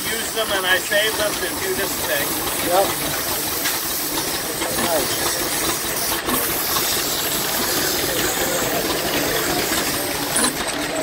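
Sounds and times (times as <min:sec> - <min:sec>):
sandpaper hissing on spinning wood: 0:00.0 - 0:10.5.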